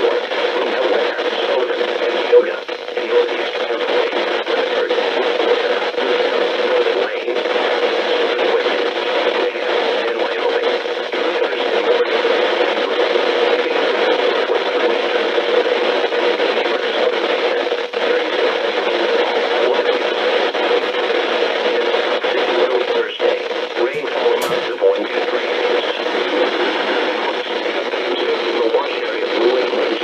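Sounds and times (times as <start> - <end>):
radio static hissing: 0.0 - 30.0.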